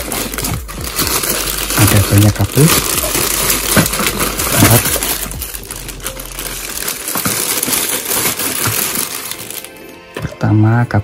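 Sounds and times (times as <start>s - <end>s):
packaging crinkling and rustling: 0.0s - 10.4s.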